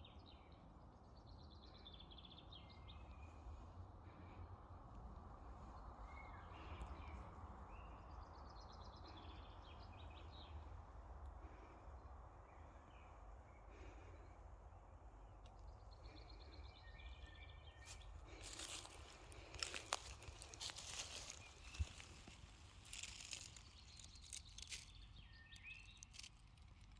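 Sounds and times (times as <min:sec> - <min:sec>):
songbird chirps: 0:00.0 - 0:26.9
low background rumble: 0:00.9 - 0:26.9.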